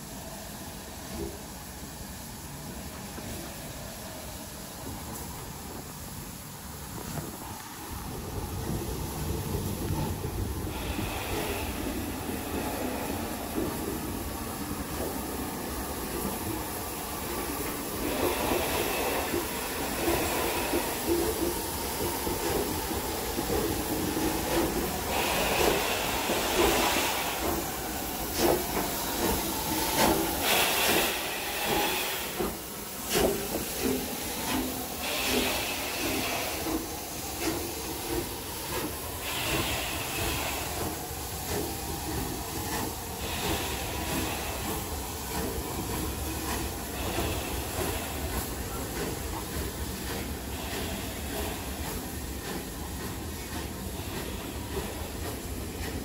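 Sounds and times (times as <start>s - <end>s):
steam locomotive hissing steam: 0.0s - 56.0s.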